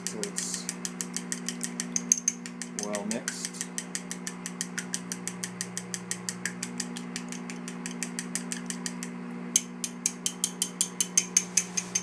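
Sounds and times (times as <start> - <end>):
chopsticks beating egg in bowl: 0.0 - 12.0
microwave oven humming: 0.0 - 12.0.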